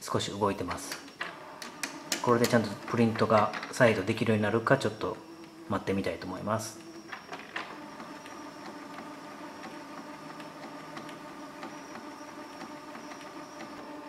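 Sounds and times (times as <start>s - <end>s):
printer motor hum: 0.0s - 14.0s
faint printer clicks: 0.6s - 14.0s.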